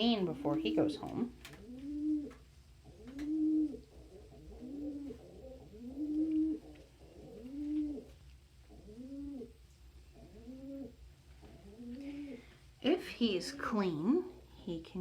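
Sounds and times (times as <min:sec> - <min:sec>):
pigeons cooing: 0:00.0 - 0:12.5.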